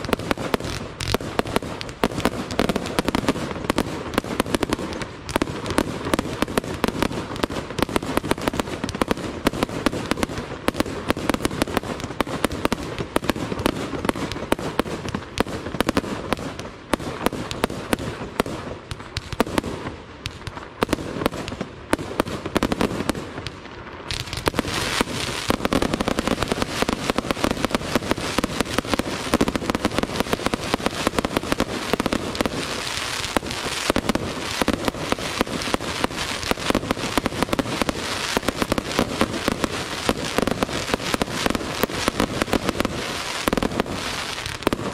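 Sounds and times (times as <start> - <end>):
fireworks bursts and bangs: 0.0 - 44.9
fireworks crackling hiss: 0.0 - 44.9.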